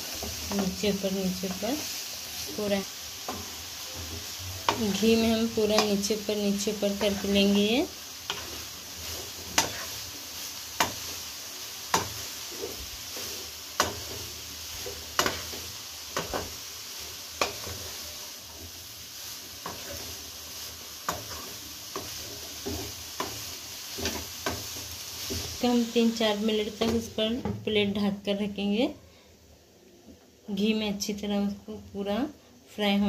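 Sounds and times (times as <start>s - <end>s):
food sizzling: 0.0s - 28.9s.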